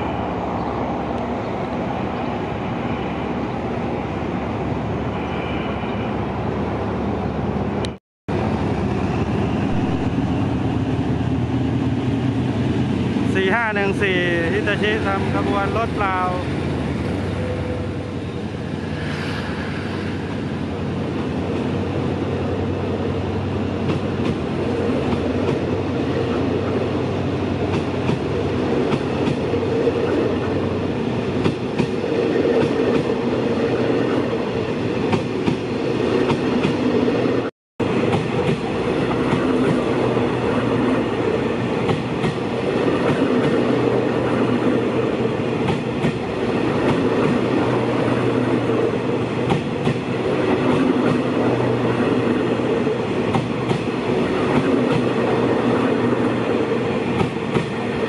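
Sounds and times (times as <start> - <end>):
diesel locomotive rumbling past: 0.0 - 58.0.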